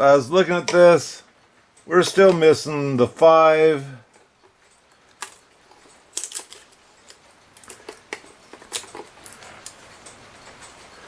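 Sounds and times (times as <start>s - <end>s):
clock parts clicking and tapping: 0.3s - 11.0s.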